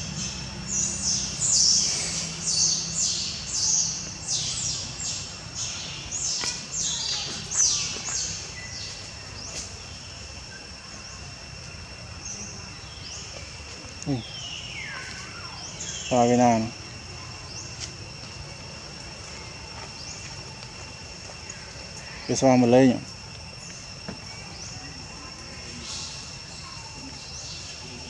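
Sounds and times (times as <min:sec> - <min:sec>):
high insect-like drone: 0:00.0 - 0:28.0.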